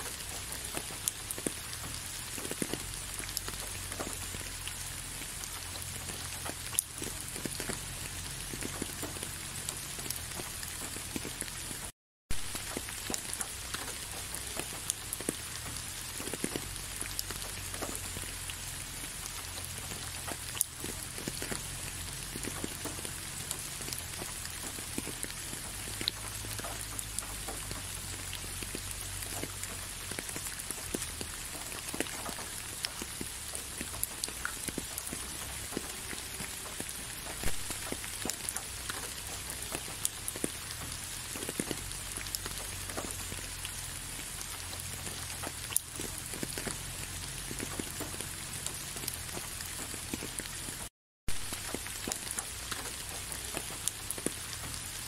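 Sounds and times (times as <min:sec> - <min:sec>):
rain drops ticking: 0:00.0 - 0:55.0.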